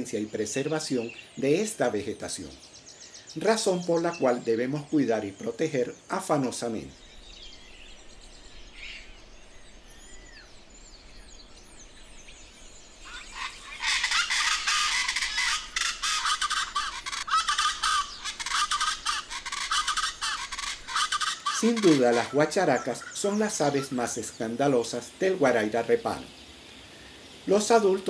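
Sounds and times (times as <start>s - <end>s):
faint high bird chirps: 0.0s - 24.7s
birds calling in chorus: 0.0s - 28.0s.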